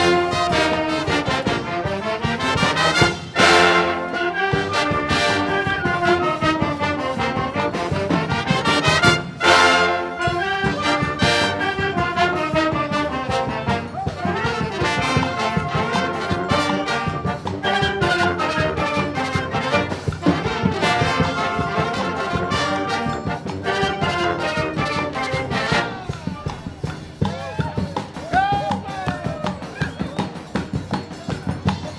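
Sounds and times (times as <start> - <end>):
wind band playing: 0.0 - 28.6
percussion beat: 0.0 - 31.9.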